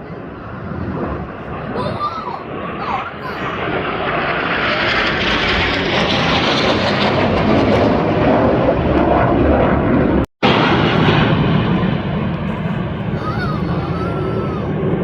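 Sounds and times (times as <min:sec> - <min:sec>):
aircraft engine flying overhead: 0:00.0 - 0:15.0.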